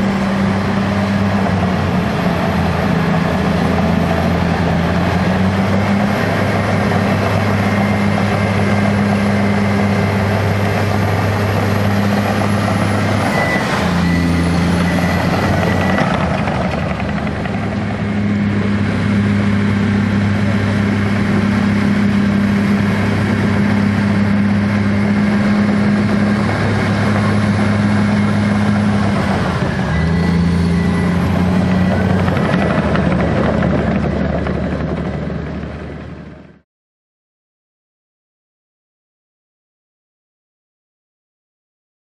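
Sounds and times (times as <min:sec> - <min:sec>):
bulldozer diesel engine running: 0:00.0 - 0:36.6.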